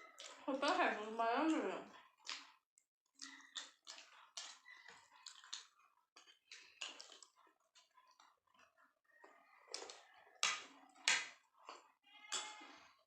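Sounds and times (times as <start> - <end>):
chewing with wet mouth smacks: 0.0 - 13.0.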